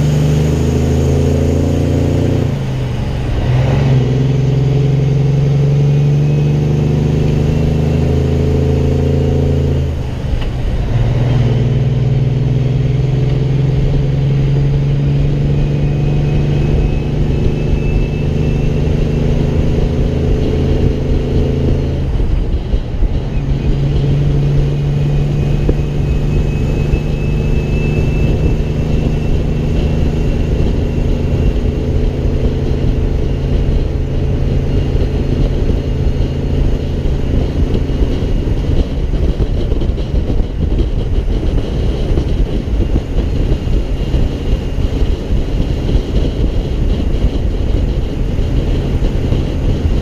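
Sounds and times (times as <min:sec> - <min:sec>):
road and wind rumble: 0:00.0 - 0:50.0
truck diesel engine pulling: 0:00.0 - 0:50.0.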